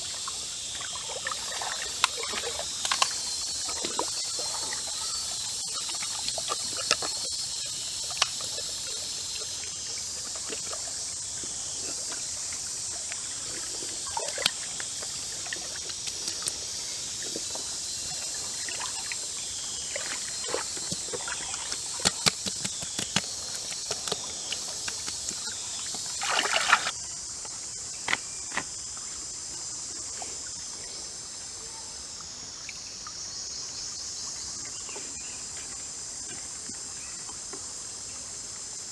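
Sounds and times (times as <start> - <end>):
stream water trickling: 0.0 - 28.1, 28.7 - 37.9
insects buzzing: 0.0 - 38.9.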